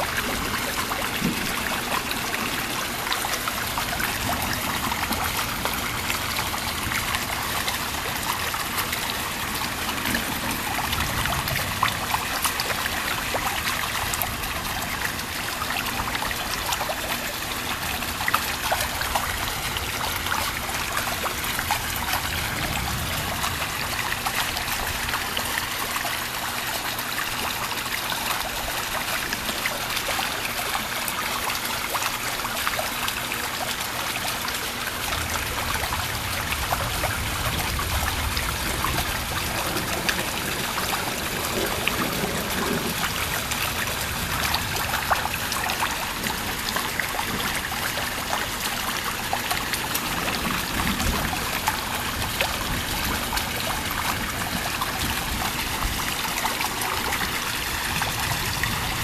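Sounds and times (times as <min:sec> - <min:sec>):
rain falling steadily: 0:00.0 - 0:59.0
trickling water: 0:00.0 - 0:59.0.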